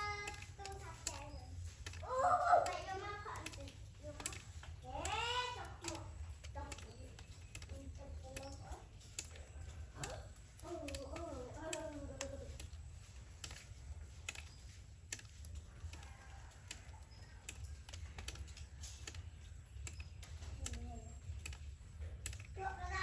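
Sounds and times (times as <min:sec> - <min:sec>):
light clicks and taps: 0:00.0 - 0:23.0.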